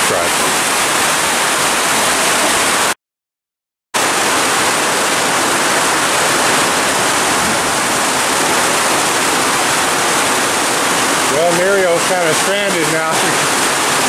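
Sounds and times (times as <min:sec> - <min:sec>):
heavy rain: 0:00.0 - 0:03.0, 0:04.0 - 0:14.0.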